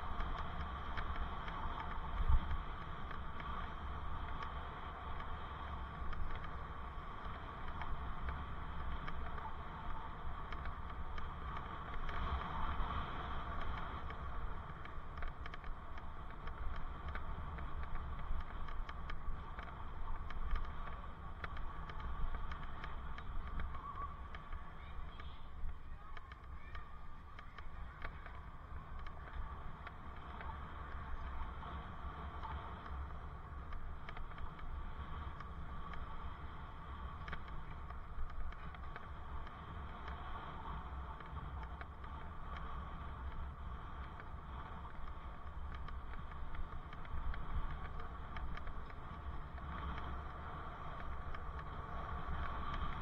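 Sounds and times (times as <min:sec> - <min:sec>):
small clicks and rattles: 0:00.0 - 0:53.0
wind rumbling on microphone: 0:00.0 - 0:53.0.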